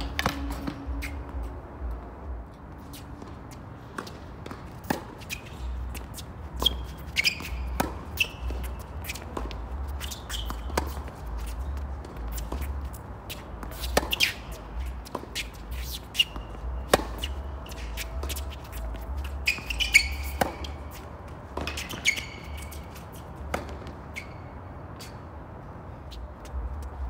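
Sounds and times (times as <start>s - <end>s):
ball bouncing: 0.0s - 1.5s, 3.2s - 24.0s
rackets striking tennis ball: 0.0s - 1.5s, 2.9s - 25.2s
sneakers squeaking on court: 0.0s - 25.4s.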